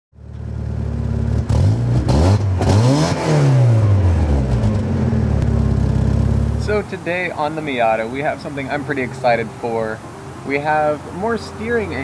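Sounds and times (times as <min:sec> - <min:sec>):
car engine idling and revving: 0:00.2 - 0:12.0.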